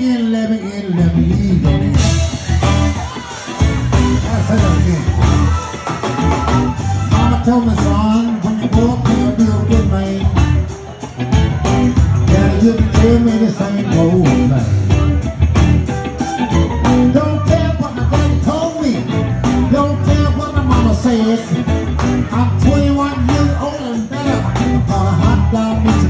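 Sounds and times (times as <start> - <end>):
live blues band playing: 0.0 - 26.0.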